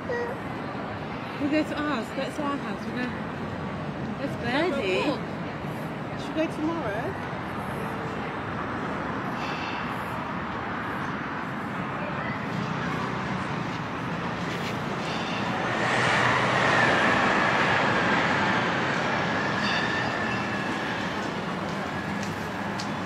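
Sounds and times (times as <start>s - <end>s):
street traffic: 0.0s - 23.0s
bus driving past: 0.3s - 23.0s.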